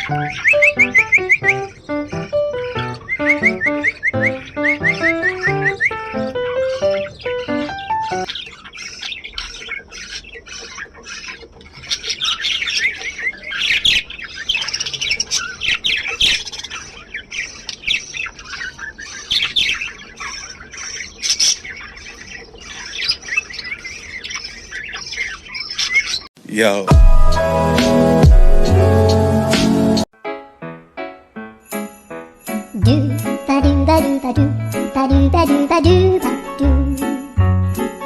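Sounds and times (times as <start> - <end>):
small birds chirping: 0.0 - 26.3, 31.9 - 38.0.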